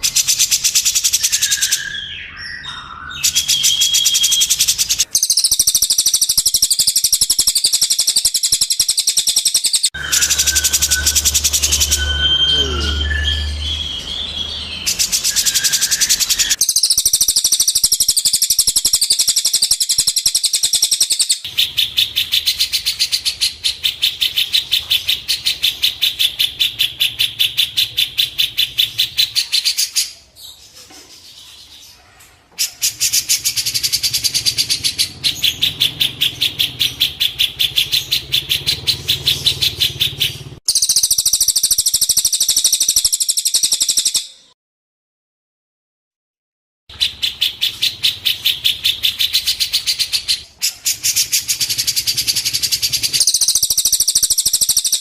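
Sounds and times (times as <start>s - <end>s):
songbird chirps: 0.0s - 44.6s, 46.9s - 55.0s.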